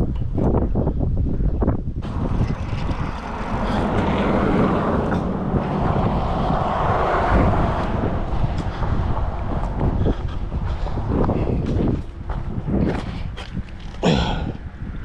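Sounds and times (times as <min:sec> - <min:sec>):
wind on microphone: 0:00.0 - 0:15.0
vehicle passing: 0:02.0 - 0:14.8.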